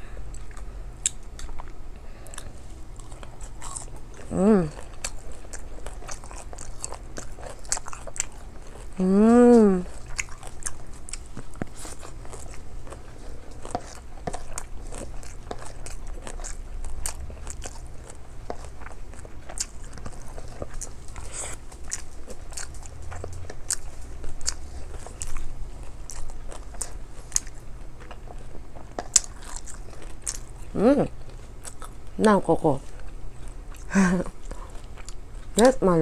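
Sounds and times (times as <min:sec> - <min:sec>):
person chewing food: 0:00.0 - 0:35.8.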